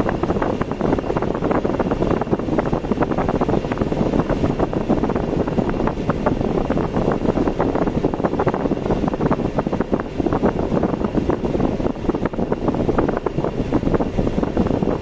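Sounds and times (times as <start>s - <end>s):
car driving on road: 0.0s - 15.0s
wind buffeting microphone: 0.0s - 15.0s.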